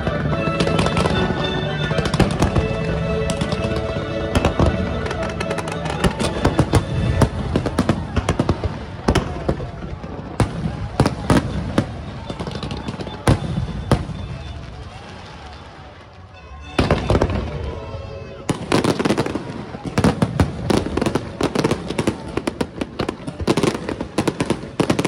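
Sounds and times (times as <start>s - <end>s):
fireworks bangs: 0.0s - 25.0s
music: 0.0s - 25.0s.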